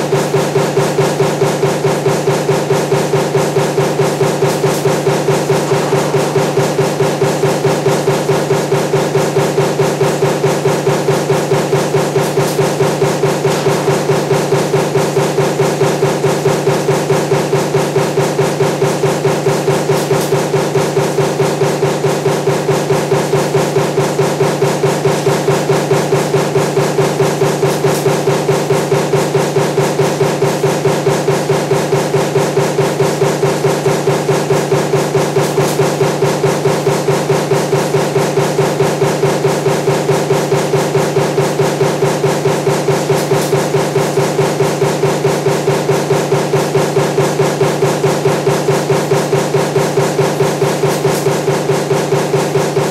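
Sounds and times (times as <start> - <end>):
machine hum: 0.0 - 52.9
punch press stamping: 0.0 - 52.9.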